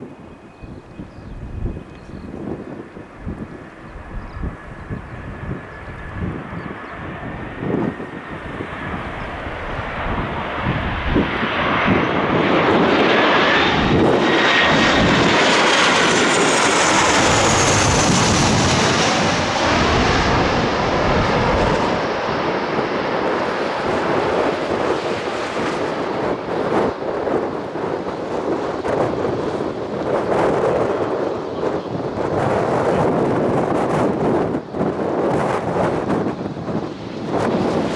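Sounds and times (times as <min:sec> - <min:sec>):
jet aircraft passing overhead: 0:00.0 - 0:37.9
wind buffeting microphone: 0:00.0 - 0:37.9.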